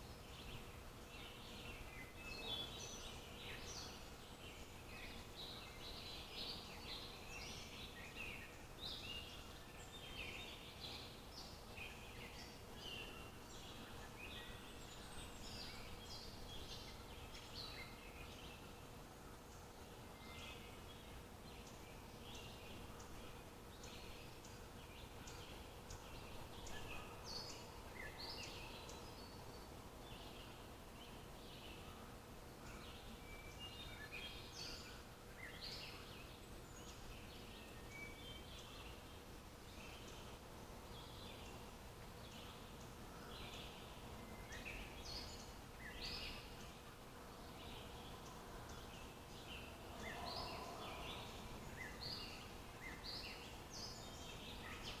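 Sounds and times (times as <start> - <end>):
birds chirping: 0.0 - 55.0
faint background hiss: 0.0 - 55.0
faint steady hum: 0.0 - 55.0.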